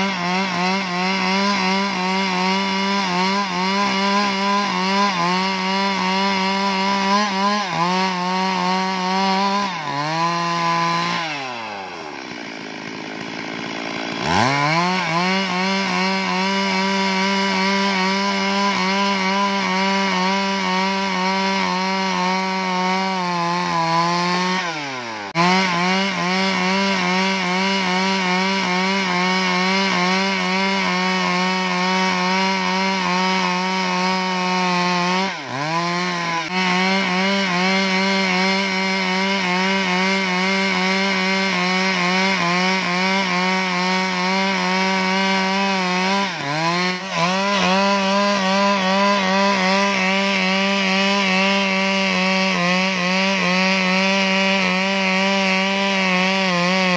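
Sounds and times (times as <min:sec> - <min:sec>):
chainsaw cutting timber: 0:00.0 - 0:56.9.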